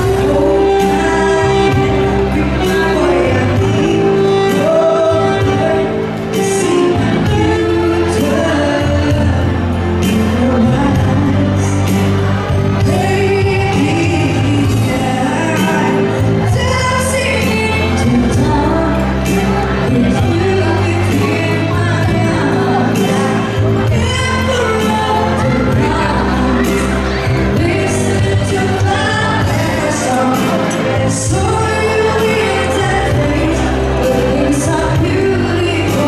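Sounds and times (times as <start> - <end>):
person singing pop song: 0.0 - 36.0
sustained bass notes: 0.0 - 36.0.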